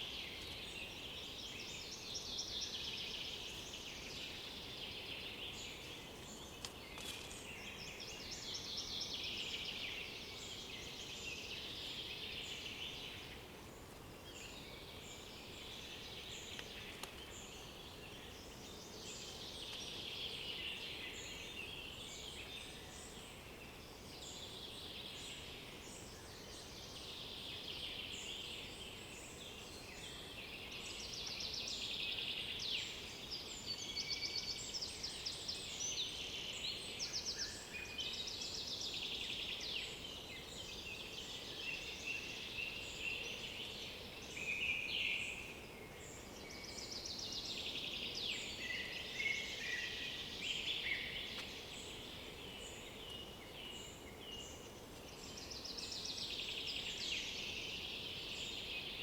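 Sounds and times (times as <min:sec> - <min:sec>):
low background hiss: 0:00.0 - 0:59.0
songbirds singing: 0:00.0 - 0:59.0.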